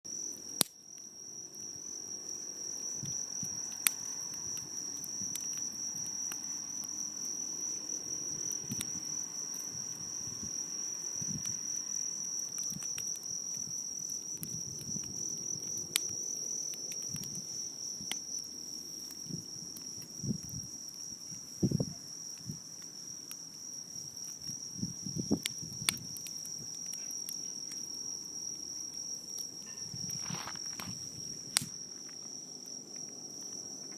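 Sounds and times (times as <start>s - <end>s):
crickets chirring: 0.1s - 33.9s
fire popping and crackling: 0.1s - 33.9s.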